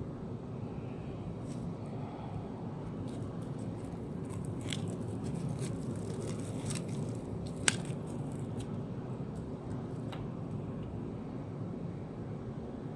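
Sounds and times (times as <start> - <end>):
low background rumble: 0.0 - 12.9.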